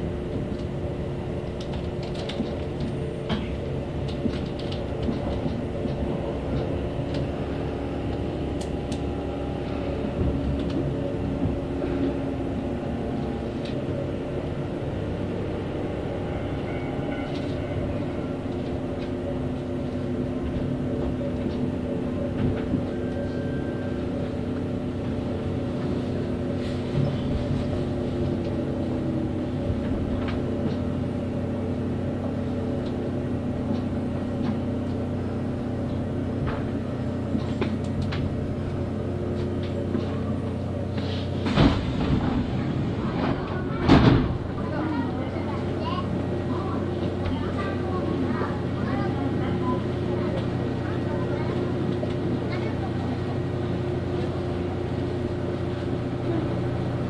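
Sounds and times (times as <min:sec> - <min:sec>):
electric train humming: 0:00.0 - 0:57.0
wheels rumbling: 0:00.0 - 0:57.0.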